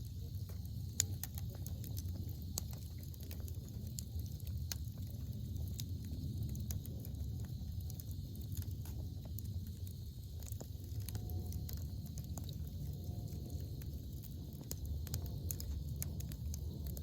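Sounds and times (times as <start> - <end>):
campfire crackling: 0.0 - 17.0
fire popping and snapping: 0.0 - 17.0
low steady rumble: 0.0 - 17.0.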